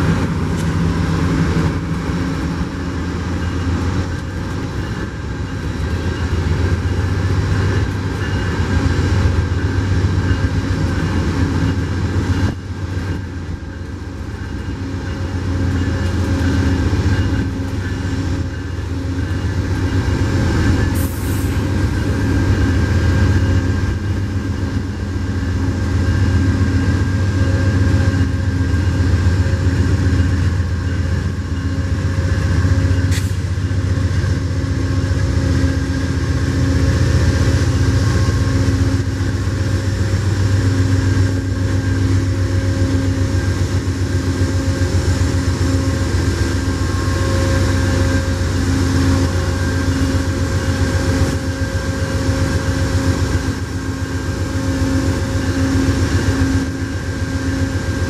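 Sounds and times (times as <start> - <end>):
diesel locomotive engine drone: 0.0 - 58.0
high whine: 0.0 - 58.0.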